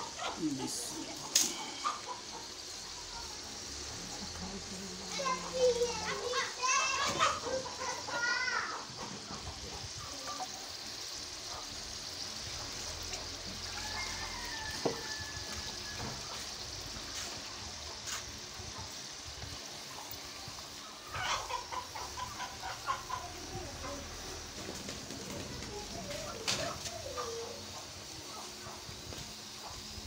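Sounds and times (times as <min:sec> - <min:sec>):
meat sizzling in oil: 0:00.0 - 0:30.0.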